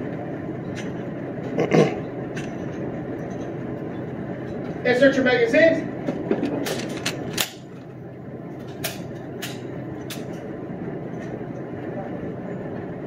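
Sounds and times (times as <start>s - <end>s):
steady background rumble: 0.0s - 13.0s.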